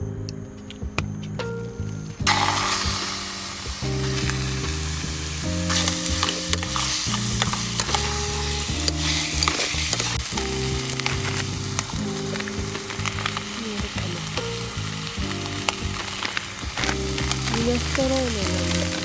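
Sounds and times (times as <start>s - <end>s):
fat spattering crackles: 2.3s - 19.0s
food sizzling in a frying pan: 2.3s - 19.0s.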